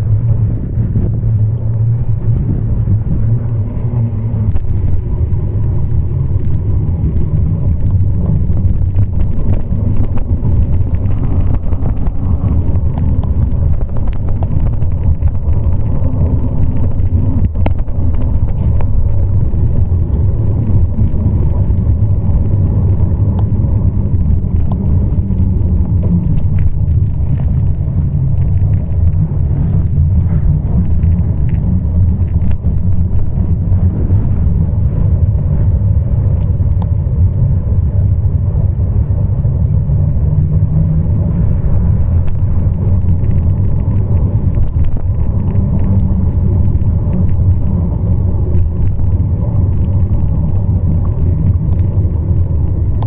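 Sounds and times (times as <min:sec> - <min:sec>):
wind buffeting microphone: 0:00.0 - 0:53.0
bicycle clicks and knocks: 0:03.4 - 0:35.6, 0:40.4 - 0:53.0.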